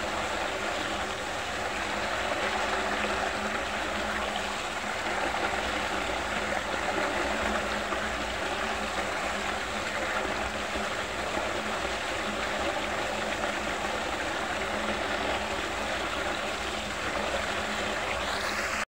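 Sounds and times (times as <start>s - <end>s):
water swirling and draining: 0.0s - 18.8s.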